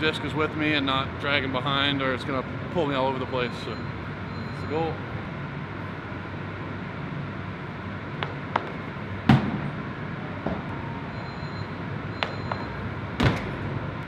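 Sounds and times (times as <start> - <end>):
room noise hum: 0.0 - 14.0.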